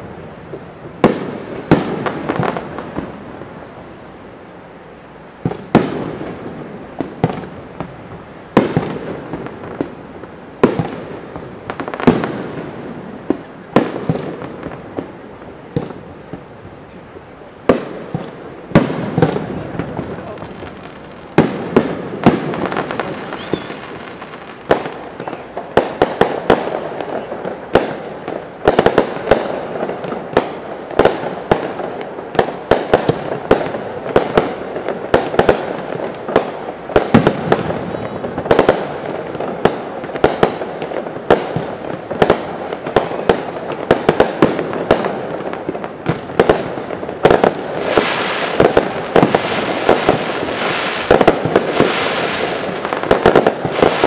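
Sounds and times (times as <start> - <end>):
firework crackle: 0.0 - 54.0.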